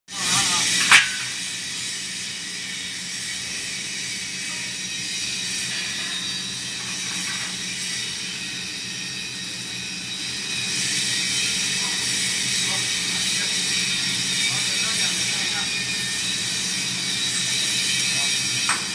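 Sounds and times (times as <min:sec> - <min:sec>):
hissing factory noise: 0:00.1 - 0:18.9
constant low hum: 0:00.2 - 0:18.9.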